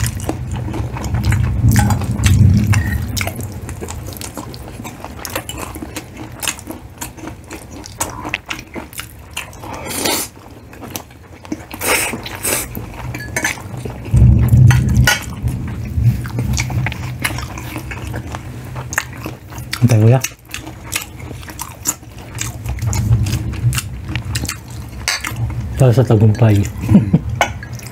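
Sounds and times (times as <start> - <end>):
biting and chewing: 0.0 - 27.9.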